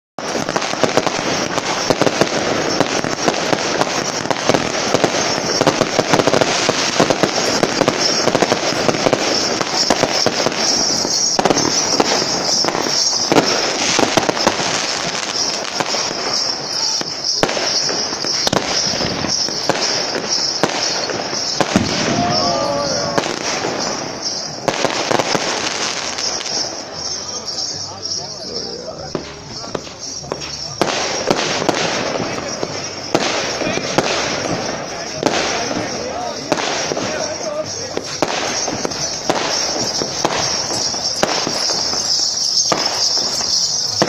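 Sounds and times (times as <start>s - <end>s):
fireworks popping and crackling: 0.2s - 44.0s
sharp bangs: 0.2s - 44.0s.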